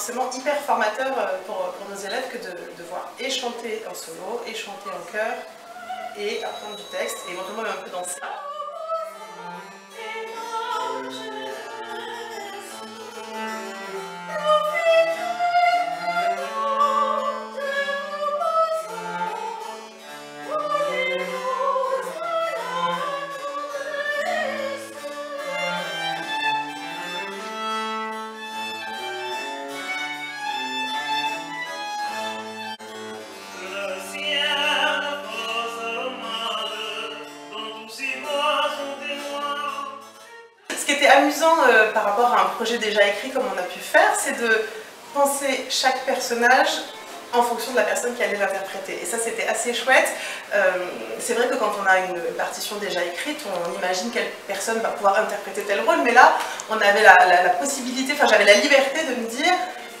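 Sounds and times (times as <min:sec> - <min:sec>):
woman singing opera: 0:00.0 - 0:27.3, 0:33.5 - 0:40.0, 0:40.7 - 1:00.0.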